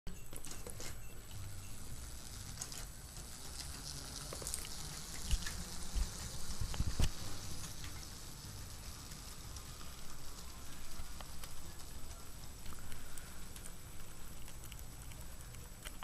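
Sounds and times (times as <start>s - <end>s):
toy train clicking and rattling: 0.1s - 16.0s.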